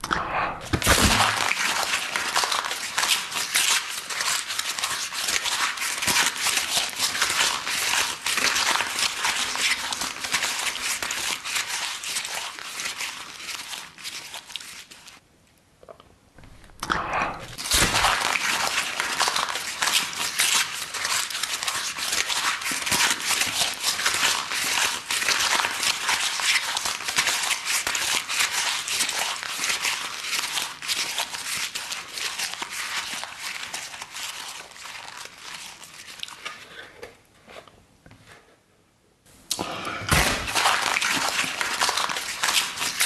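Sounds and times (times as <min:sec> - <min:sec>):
chewing crunchy cardboard: 0:00.6 - 0:15.2, 0:16.5 - 0:37.8, 0:39.5 - 0:43.0.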